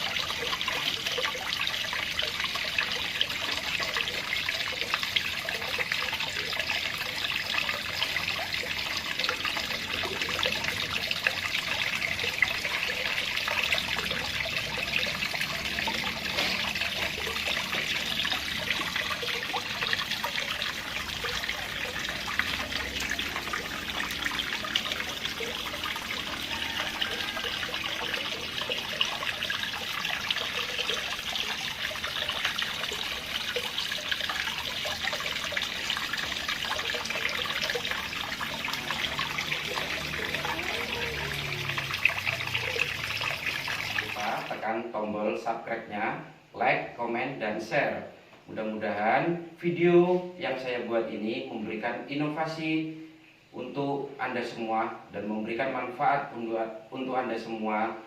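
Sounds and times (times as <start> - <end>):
water trickling into pond: 0.0 - 47.0.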